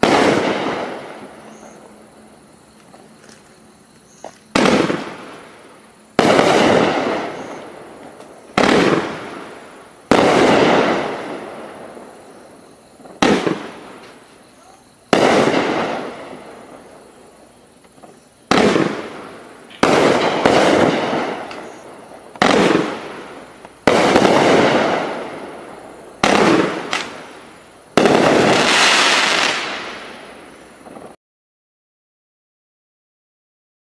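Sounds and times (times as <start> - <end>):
fireworks bangs and crackle: 0.0 - 2.0, 2.8 - 31.2.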